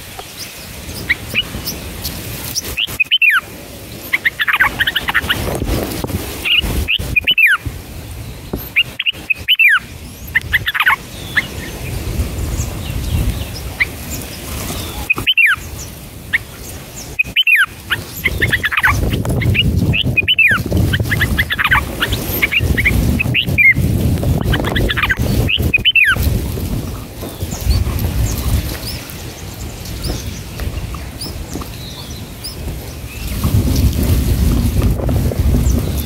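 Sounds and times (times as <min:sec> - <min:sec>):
bulbuls chirping: 0:00.0 - 0:36.0.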